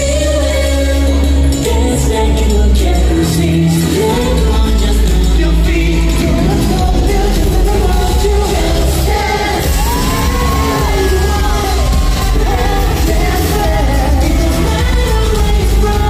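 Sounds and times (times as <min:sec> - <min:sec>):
upbeat pop music over pa: 0:00.0 - 0:16.0
group singing: 0:01.6 - 0:16.0.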